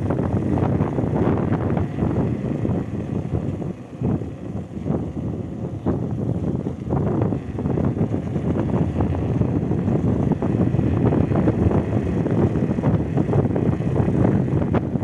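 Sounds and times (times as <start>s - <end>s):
tyres and engine rumble: 0.0s - 15.0s
wind buffeting microphone: 0.0s - 15.0s.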